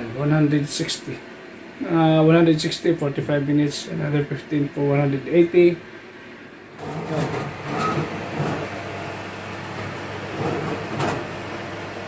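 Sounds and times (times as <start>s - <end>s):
fan oven humming: 0.0s - 12.0s.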